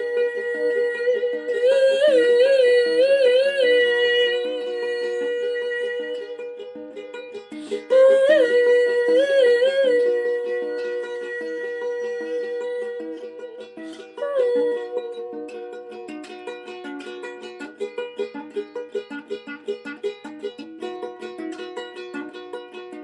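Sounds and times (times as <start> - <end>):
plucked strings: 0.0 - 23.0.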